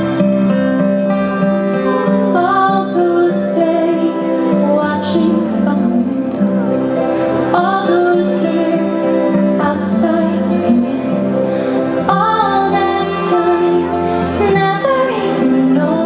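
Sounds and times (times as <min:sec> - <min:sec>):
show soundtrack music: 0:00.0 - 0:16.0
woman singing long held notes: 0:02.3 - 0:16.0.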